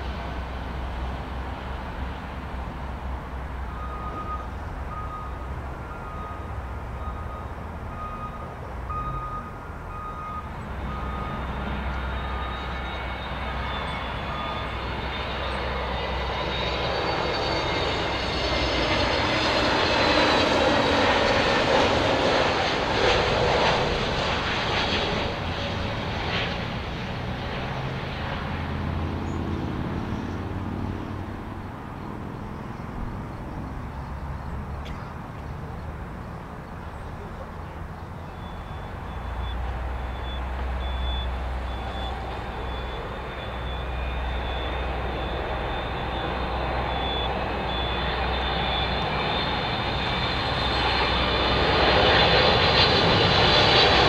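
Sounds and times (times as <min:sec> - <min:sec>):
jet engines whining: 0:09.0 - 0:35.7, 0:36.5 - 0:54.0.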